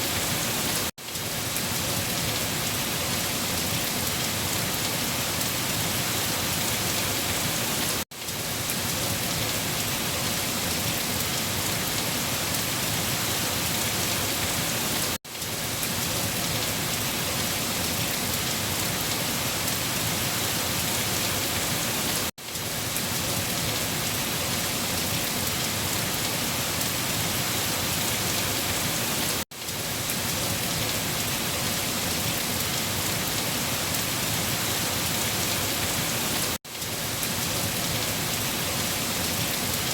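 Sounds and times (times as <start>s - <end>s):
heavy rain falling on leaves: 0.0s - 39.9s.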